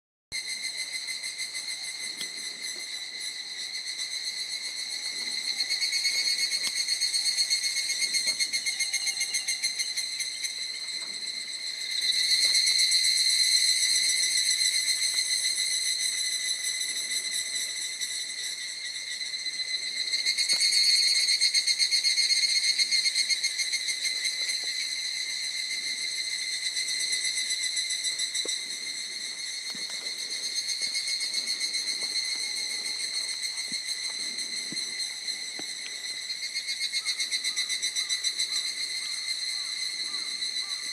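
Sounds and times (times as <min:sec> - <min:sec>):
insects trilling: 0:00.4 - 0:40.9.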